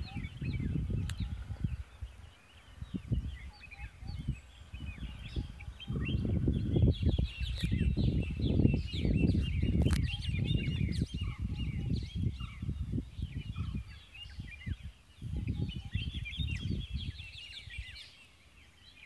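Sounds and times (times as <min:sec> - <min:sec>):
wind buffeting microphone: 0:00.0 - 0:18.2
small birds chirping: 0:00.0 - 0:19.0.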